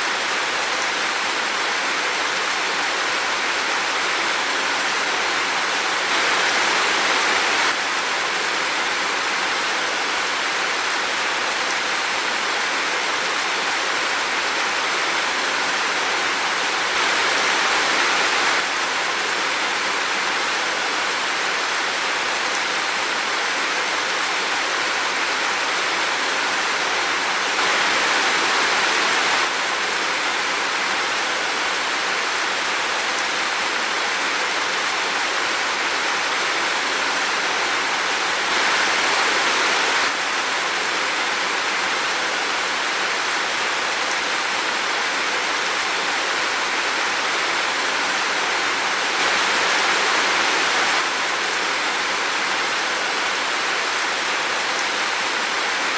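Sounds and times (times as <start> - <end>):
heavy rain hissing: 0.0 - 55.9.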